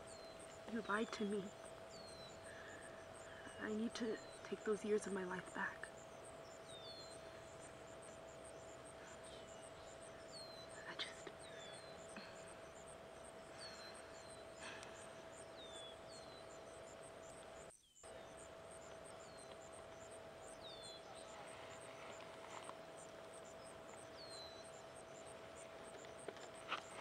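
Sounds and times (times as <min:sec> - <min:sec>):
faint steady tone: 0:00.0 - 0:27.0
insects calling: 0:00.0 - 0:27.0.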